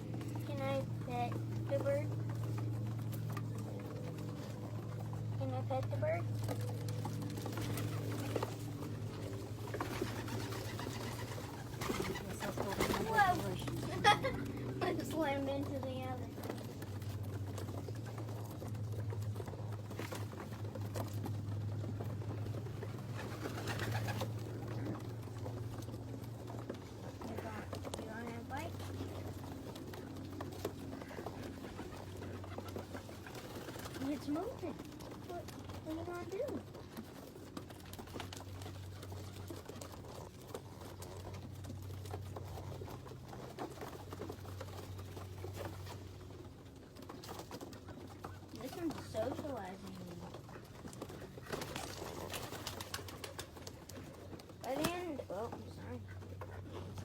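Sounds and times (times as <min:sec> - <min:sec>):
birds clicking and scuffling: 0:00.0 - 0:57.0
steady low hum: 0:00.0 - 0:57.0.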